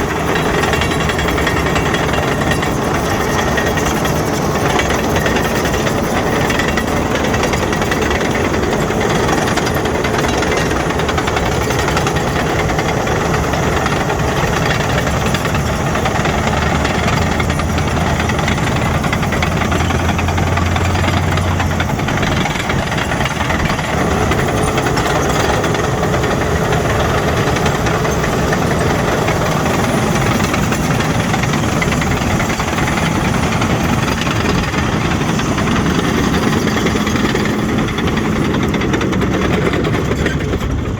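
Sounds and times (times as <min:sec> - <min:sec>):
bulldozer diesel engine: 0:00.0 - 0:40.9
steel tracks clanking: 0:00.0 - 0:40.9.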